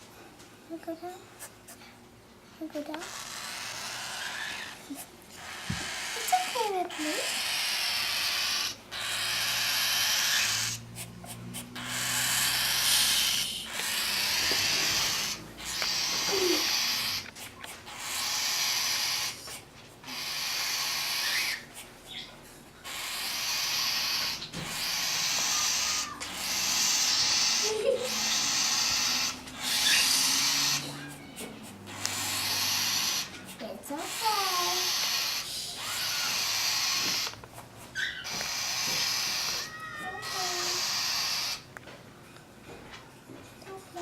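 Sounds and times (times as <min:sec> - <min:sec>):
cockatiel raspy begging calls: 0:03.0 - 0:10.9, 0:11.6 - 0:17.3, 0:17.9 - 0:22.2, 0:22.8 - 0:37.4, 0:38.0 - 0:41.7.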